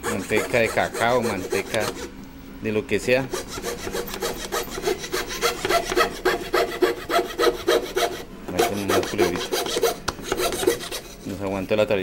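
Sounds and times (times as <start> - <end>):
fret saw rasping through wood: 0.0 - 2.1, 3.3 - 11.4.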